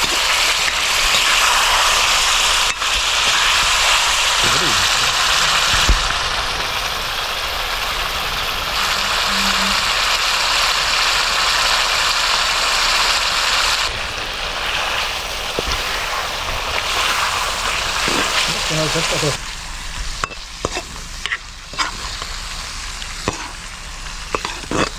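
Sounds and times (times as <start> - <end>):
curry sizzling in a pan: 0.0 - 24.9.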